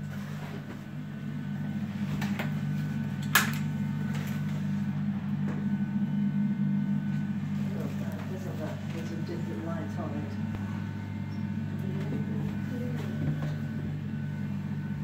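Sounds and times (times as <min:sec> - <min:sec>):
extractor fan humming: 0:00.0 - 0:15.0.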